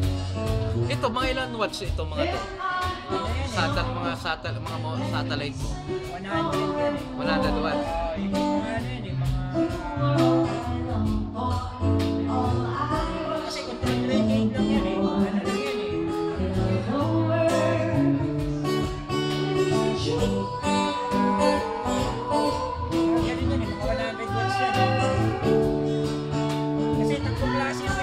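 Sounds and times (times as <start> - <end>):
acoustic guitar: 0.0 - 28.0
percussion beat: 0.0 - 28.0
person singing: 2.1 - 28.0.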